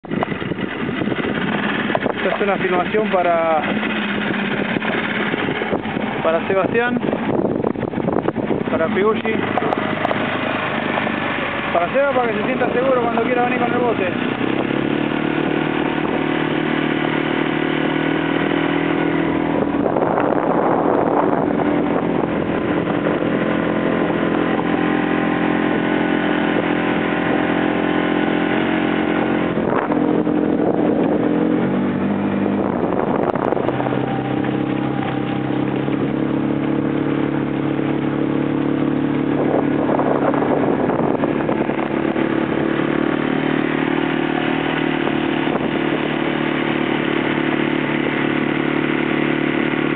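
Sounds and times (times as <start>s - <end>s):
outboard motor running: 0.0s - 49.9s.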